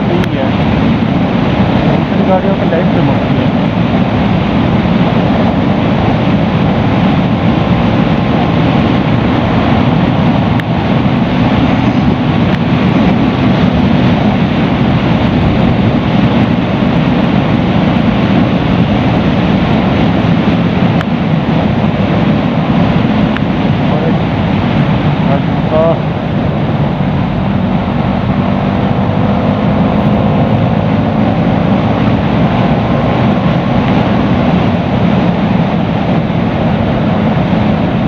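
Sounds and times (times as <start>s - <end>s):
motorcycle engine at highway speed: 0.0s - 38.0s
wind rushing over microphone: 0.0s - 38.0s.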